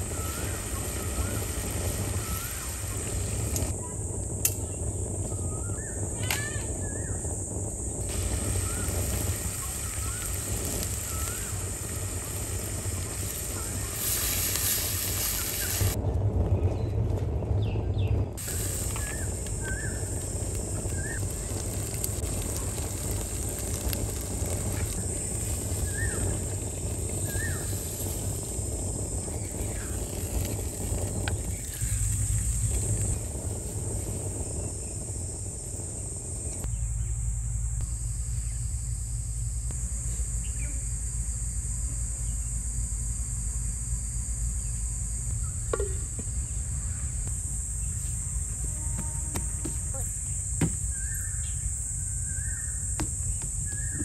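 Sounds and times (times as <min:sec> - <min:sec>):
insects buzzing: 0:00.0 - 0:16.0, 0:17.6 - 0:54.0
low background rumble: 0:00.0 - 0:54.0.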